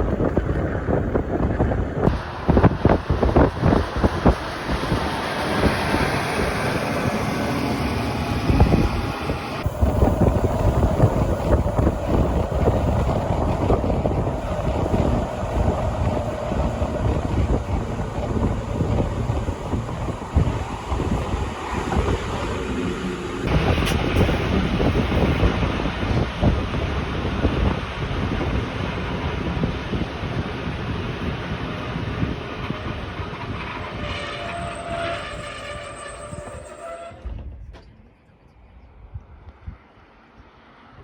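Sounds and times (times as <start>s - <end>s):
train wheels on rail: 0.0s - 37.9s
wind on microphone: 0.0s - 38.0s.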